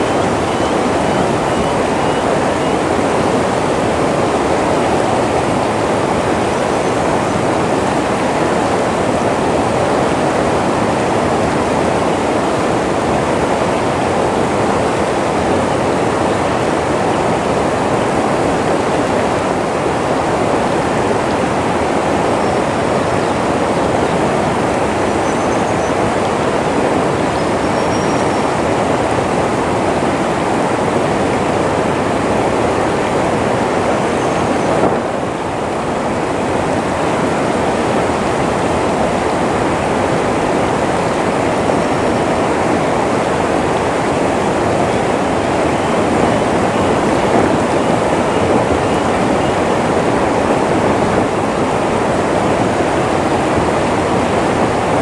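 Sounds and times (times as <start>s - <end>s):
river rapids rushing over rocks: 0.0s - 55.0s.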